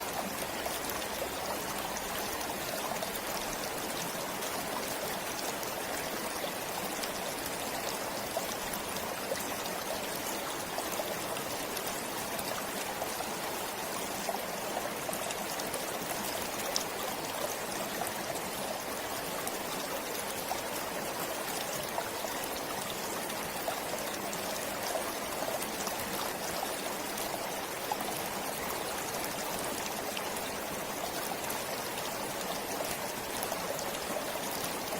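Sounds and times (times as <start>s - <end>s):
water stream flowing: 0.0s - 34.9s
water trickling and splashing: 0.0s - 34.9s.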